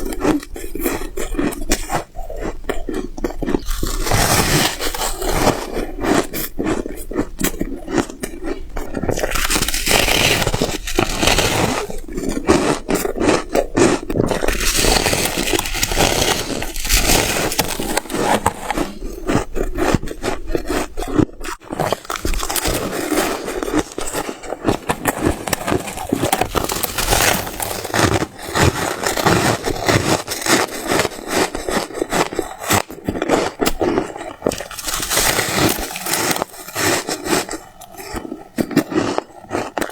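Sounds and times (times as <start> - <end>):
freezer ice crunching and scraping: 0.0 - 39.9.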